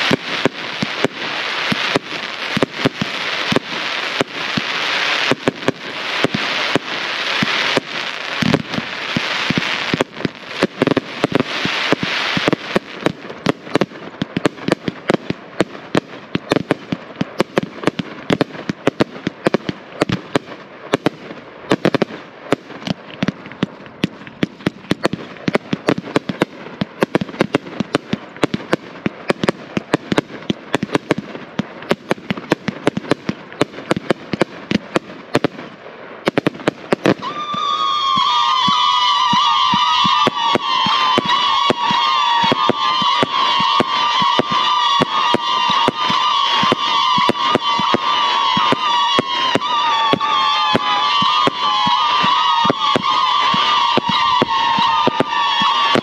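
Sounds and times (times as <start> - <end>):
firework cake shots and bursts: 0.0 - 56.0
firework hiss: 0.0 - 56.0.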